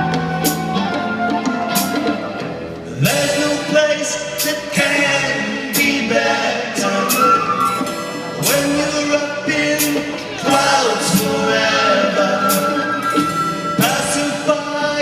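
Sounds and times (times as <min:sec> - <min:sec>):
drum and cymbal hits: 0:00.0 - 0:15.0
psychedelic rock band playing: 0:00.0 - 0:15.0
voices singing: 0:03.0 - 0:15.0.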